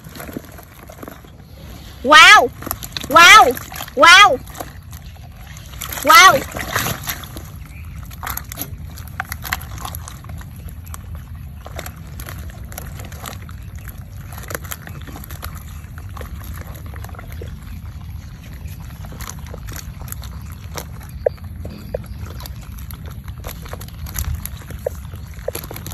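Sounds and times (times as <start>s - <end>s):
eels squelching and slithering: 0.0s - 25.9s
steady low rumble: 0.0s - 25.9s.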